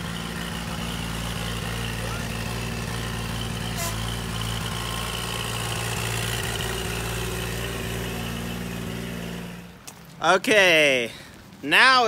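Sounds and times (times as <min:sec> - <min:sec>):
tractor engine idling: 0:00.0 - 0:09.9.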